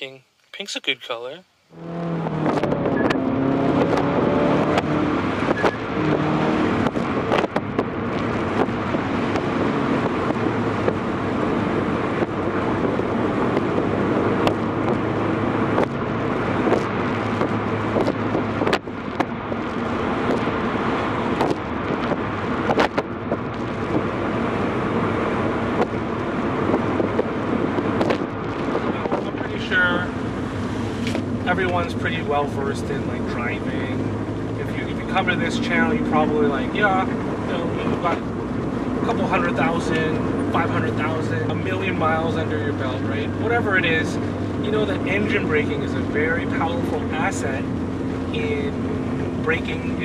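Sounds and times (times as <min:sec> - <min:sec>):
road noise: 0:00.0 - 0:50.0
car engine running: 0:01.7 - 0:50.0.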